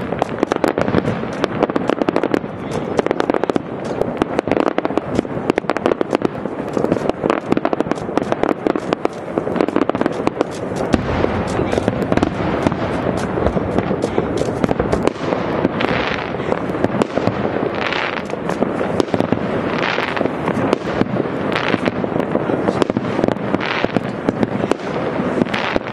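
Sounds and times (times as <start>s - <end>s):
fireworks crackling: 0.0s - 25.9s
fireworks rushing hiss: 0.0s - 25.9s.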